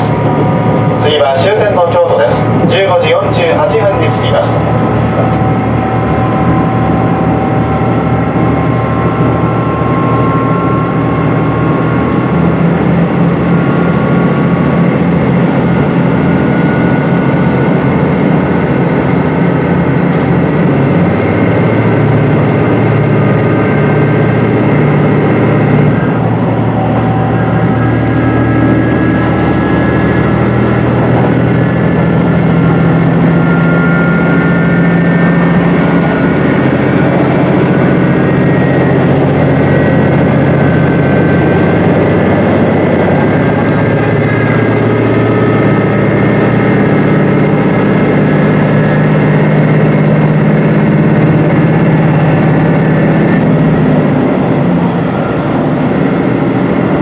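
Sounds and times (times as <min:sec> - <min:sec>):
diesel railcar drone: 0:00.0 - 0:57.0
whining tones: 0:00.0 - 0:57.0.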